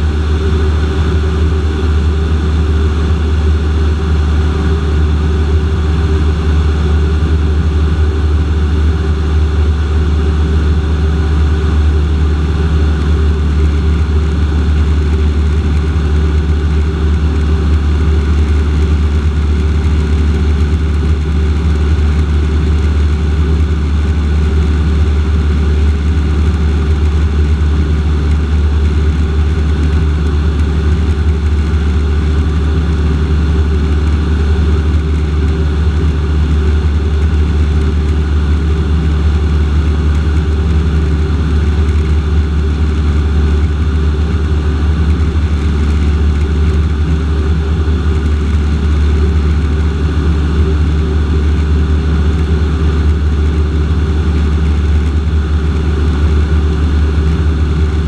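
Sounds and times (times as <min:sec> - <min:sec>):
airplane engine and propeller hum: 0:00.0 - 0:58.0.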